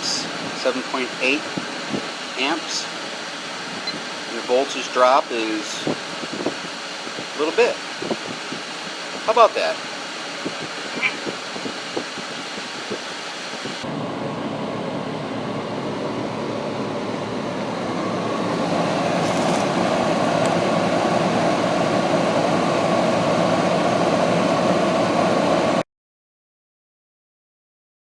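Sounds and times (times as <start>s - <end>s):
air conditioner humming: 0.0s - 25.8s
generator running: 0.0s - 25.8s.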